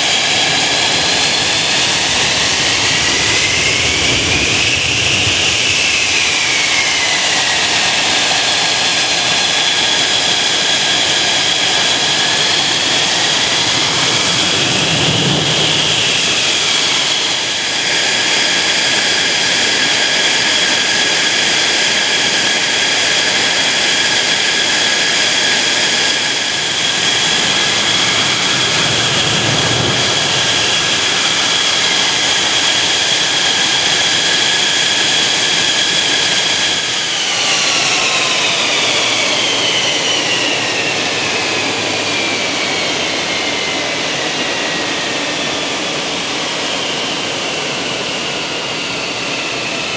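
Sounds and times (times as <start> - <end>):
fighter jet engines roaring: 0.0 - 49.9.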